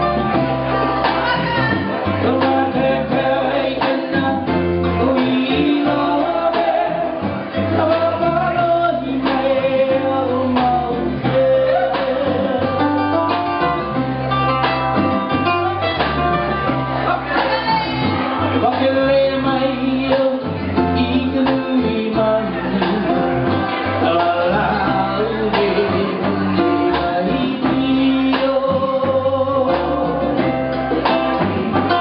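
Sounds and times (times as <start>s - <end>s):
bass guitar: 0.0s - 32.0s
congas: 0.0s - 32.0s
drum kit beat: 0.0s - 32.0s
ukulele: 0.0s - 32.0s
person singing: 1.0s - 13.5s, 17.1s - 30.6s, 31.4s - 32.0s.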